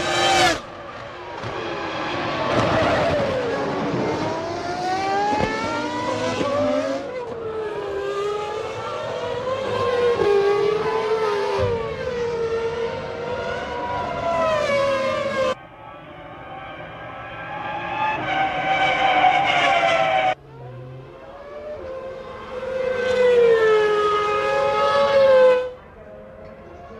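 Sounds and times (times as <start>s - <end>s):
racing car engines at high revs: 0.0s - 26.6s.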